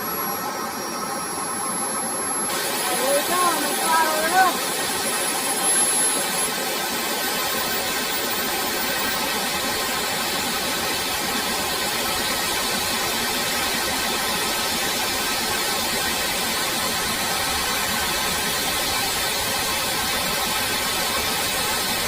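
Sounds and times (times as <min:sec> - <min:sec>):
small turbojet engine running: 0:00.0 - 0:22.0.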